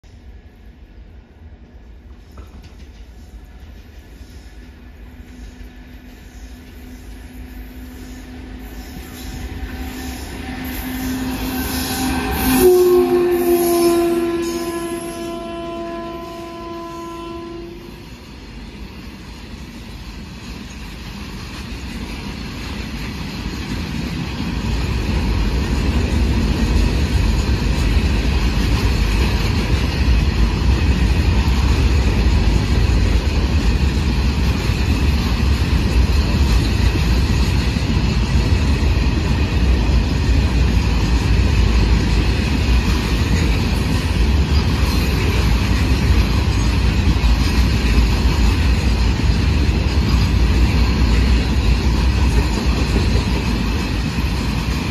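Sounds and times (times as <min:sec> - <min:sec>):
freight train wagons rolling past: 0:00.0 - 0:54.9.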